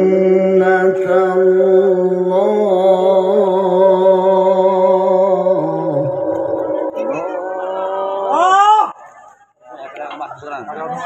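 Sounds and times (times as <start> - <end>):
man reciting melodically over loudspeaker: 0.0 - 11.0.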